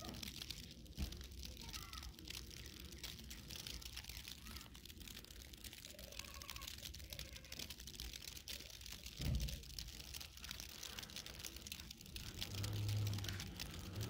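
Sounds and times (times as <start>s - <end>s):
falling snow hiss with ticks: 0.0s - 14.0s.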